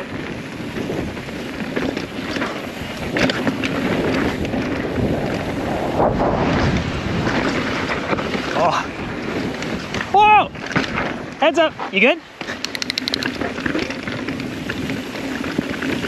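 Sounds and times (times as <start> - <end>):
bike knocking and rattling: 0.0 - 5.6, 6.6 - 16.0
wind rushing over microphone: 0.0 - 16.0.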